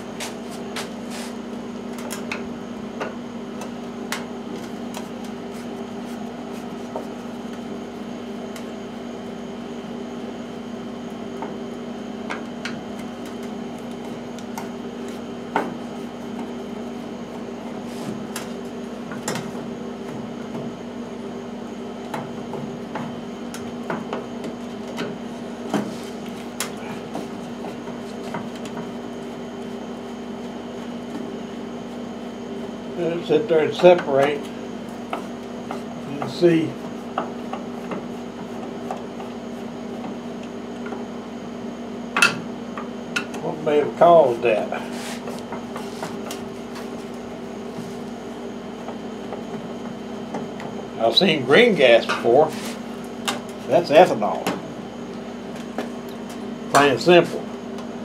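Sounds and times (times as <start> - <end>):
steady workshop hum: 0.0 - 58.0.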